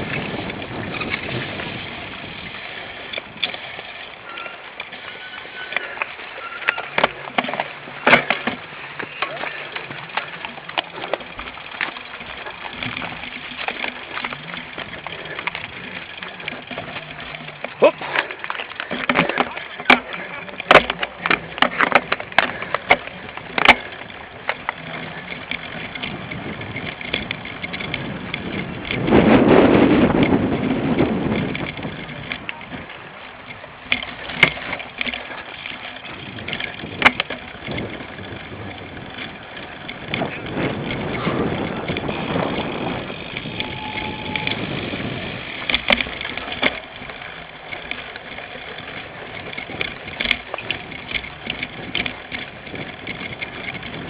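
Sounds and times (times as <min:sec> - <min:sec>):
bike chain and frame rattling: 0:00.0 - 0:54.0.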